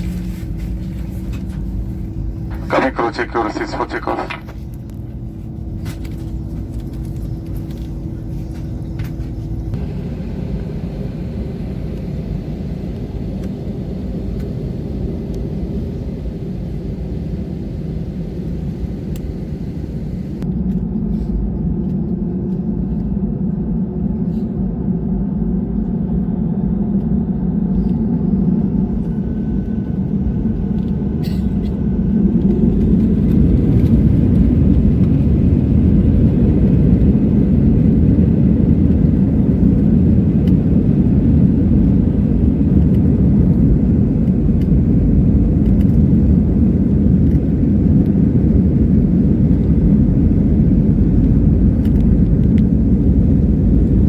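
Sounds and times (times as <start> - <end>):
jet engine and runway rumble: 0.0 - 54.0.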